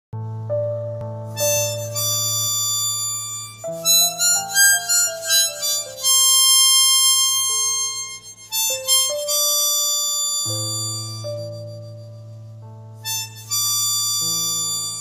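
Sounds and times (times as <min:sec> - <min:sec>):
harmonica melody: 0:01.0 - 0:15.0.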